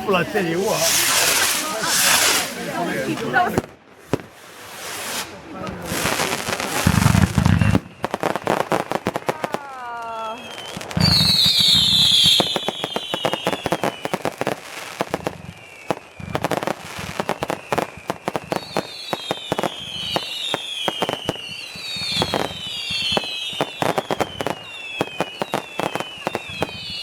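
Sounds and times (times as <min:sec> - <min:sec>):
fireworks crackling pops: 0:00.0 - 0:27.0
falling firework whistles: 0:00.7 - 0:02.6, 0:04.0 - 0:09.5, 0:10.1 - 0:27.0.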